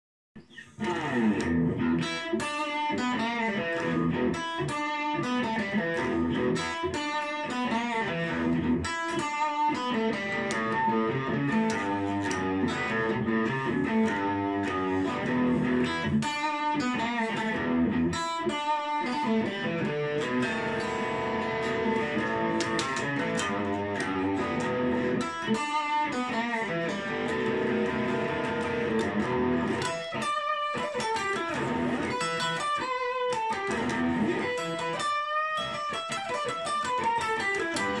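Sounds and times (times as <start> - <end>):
electric guitar playing a boogie: 0.4 - 38.0.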